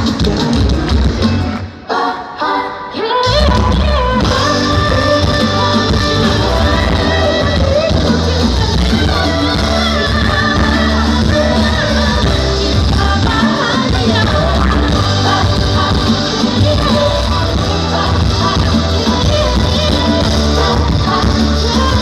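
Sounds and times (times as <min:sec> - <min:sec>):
live pop band with singing: 0:00.0 - 0:22.0.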